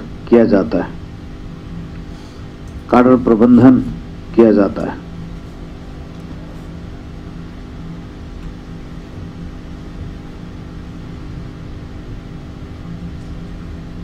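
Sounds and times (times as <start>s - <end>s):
room noise hiss: 0.0s - 14.0s
steady low hum: 0.0s - 14.0s.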